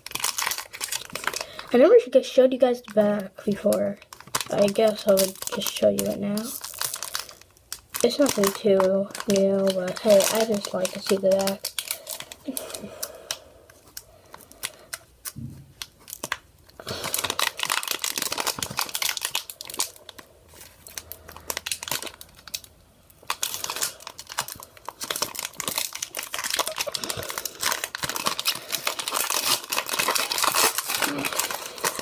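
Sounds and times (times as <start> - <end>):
foil wrapper tearing and crinkling: 0.0 - 32.0.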